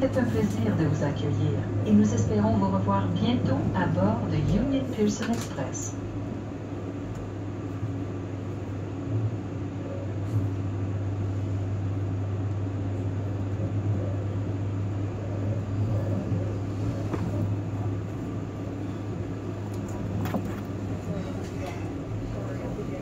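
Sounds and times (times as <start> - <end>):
train cabin hum: 0.0 - 23.0.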